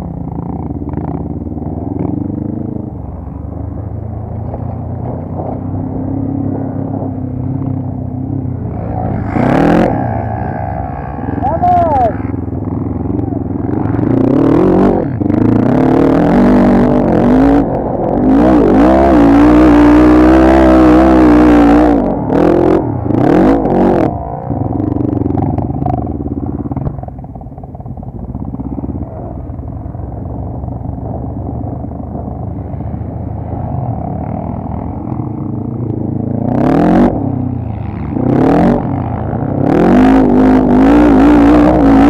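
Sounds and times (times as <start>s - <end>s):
atv engine revving: 0.0s - 42.0s.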